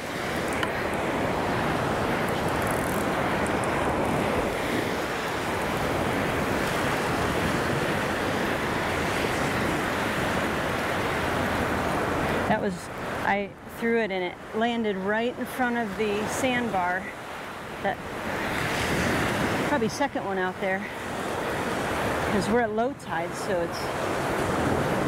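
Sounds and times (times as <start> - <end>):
wind on microphone: 0.0 - 13.2, 15.7 - 25.0
surf washing up: 0.0 - 25.0.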